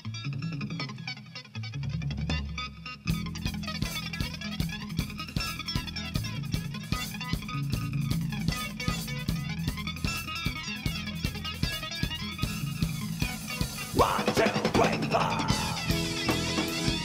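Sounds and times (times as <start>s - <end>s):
rock band playing live: 2.3s - 17.0s
drum kit steady beat: 3.2s - 17.0s.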